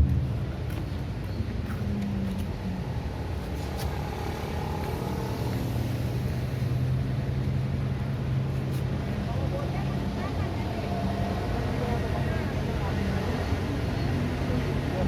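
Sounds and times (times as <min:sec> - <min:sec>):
passing traffic: 0:00.0 - 0:15.0
vehicle engine running close by: 0:00.0 - 0:15.0.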